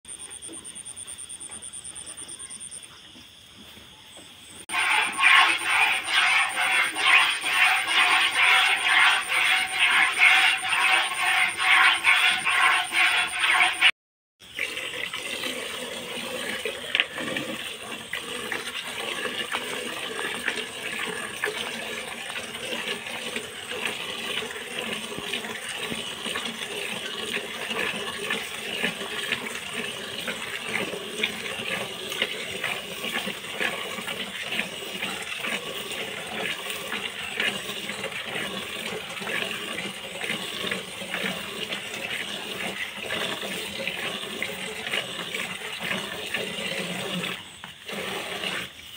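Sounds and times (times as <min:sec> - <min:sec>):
milk squirting into bucket: 0:04.7 - 0:48.9.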